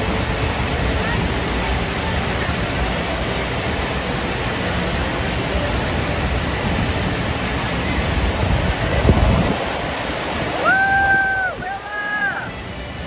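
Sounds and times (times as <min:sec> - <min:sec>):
rushing water on a ramp: 0:00.0 - 0:13.0.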